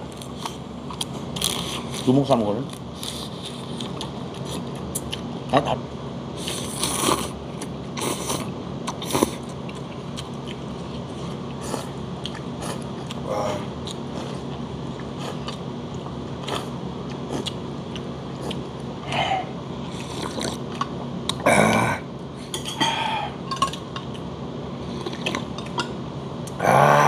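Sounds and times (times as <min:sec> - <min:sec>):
low kitchen hum: 0:00.0 - 0:27.0.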